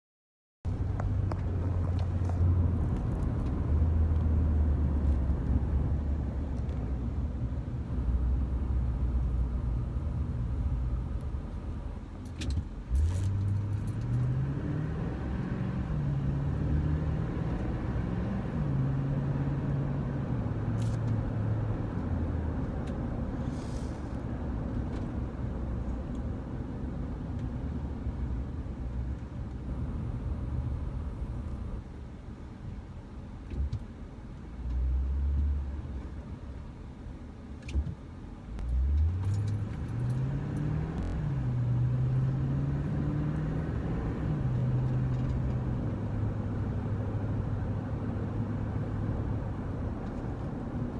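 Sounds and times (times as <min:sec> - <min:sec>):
road rumble: 0:00.6 - 0:50.9
car engine hum: 0:00.7 - 0:50.9.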